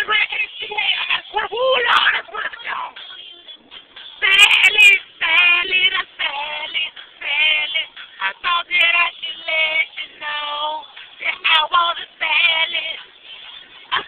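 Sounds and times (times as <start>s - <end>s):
woman singing pop song: 0.0s - 14.0s.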